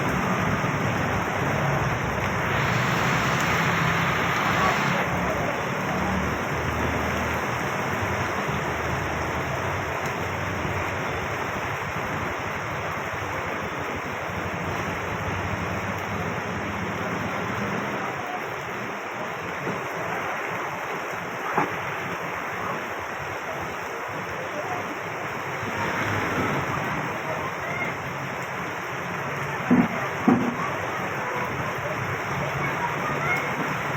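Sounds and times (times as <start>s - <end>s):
vehicles passing on wet road: 0.0s - 22.3s, 24.6s - 33.9s
heavy rain falling: 0.0s - 33.9s.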